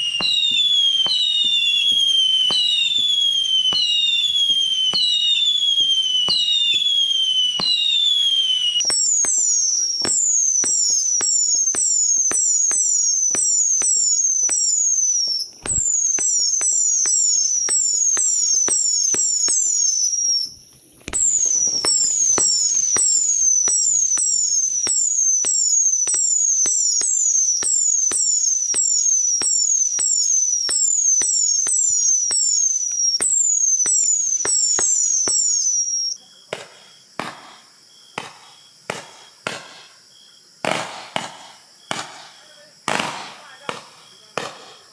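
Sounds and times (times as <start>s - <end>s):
firework launch pops: 0.0s - 40.0s, 40.6s - 44.9s
falling firework whistles: 0.0s - 44.9s.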